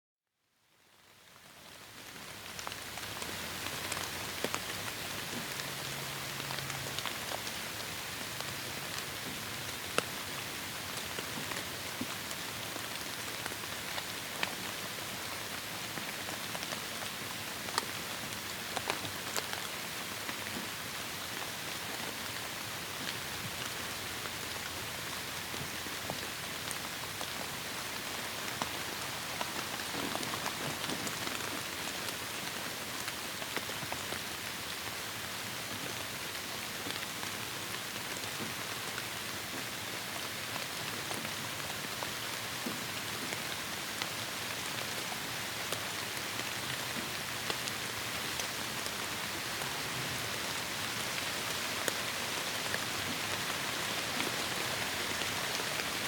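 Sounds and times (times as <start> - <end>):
raindrops striking nearby: 1.8 - 56.0
heavy rain hiss: 2.3 - 56.0.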